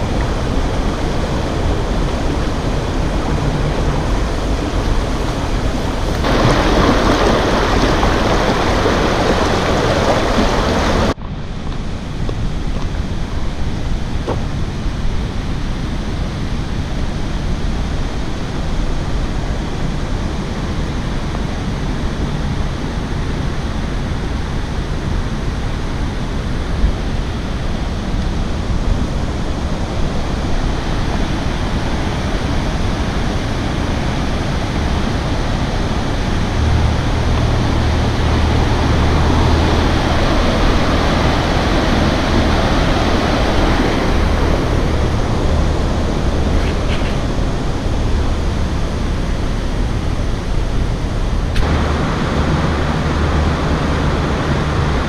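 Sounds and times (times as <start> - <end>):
low steady hum: 0.0 - 55.0
rushing stream water: 0.0 - 55.0.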